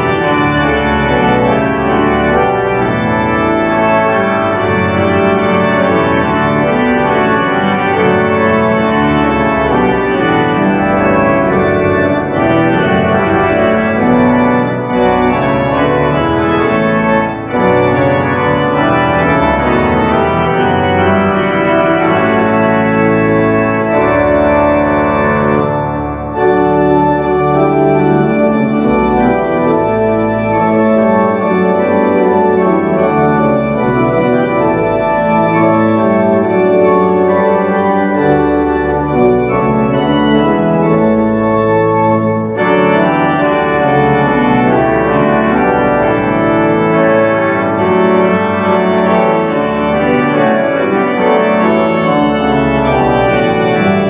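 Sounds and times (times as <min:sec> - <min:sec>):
organ pedal bass line: 0:00.0 - 0:54.0
organ playing a hymn: 0:00.0 - 0:54.0.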